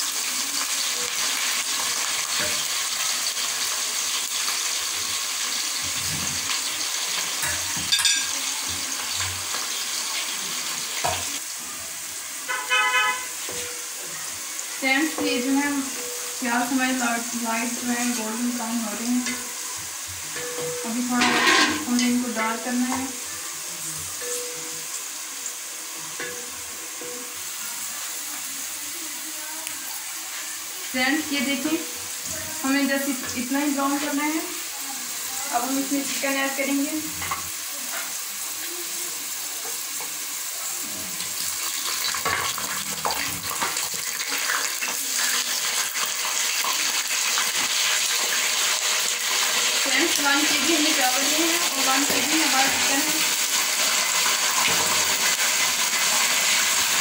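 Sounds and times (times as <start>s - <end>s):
onions sizzling in hot oil: 0.0s - 57.0s.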